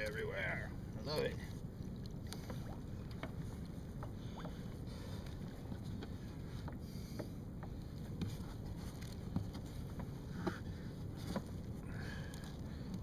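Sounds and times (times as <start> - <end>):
wind and water rushing: 0.0 - 13.0.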